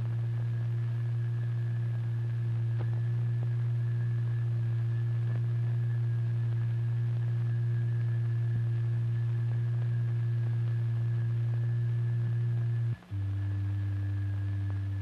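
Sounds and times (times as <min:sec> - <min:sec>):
low sine-wave tone: 0:00.0 - 0:15.0.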